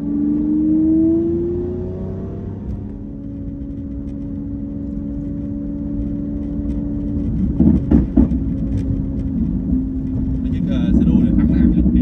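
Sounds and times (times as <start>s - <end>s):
road rumble: 0.0s - 12.0s
vehicle engine cruising: 0.0s - 12.0s.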